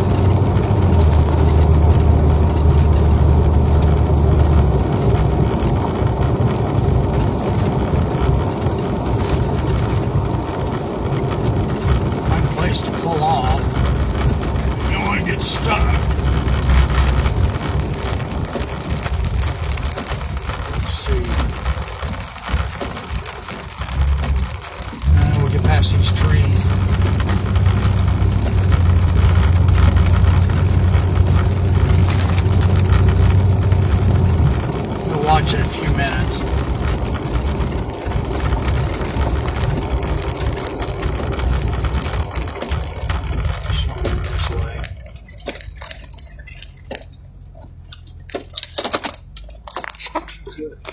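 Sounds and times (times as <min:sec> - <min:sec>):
engine and road rumble: 0:00.0 - 0:50.9
light ticks: 0:00.0 - 0:50.9.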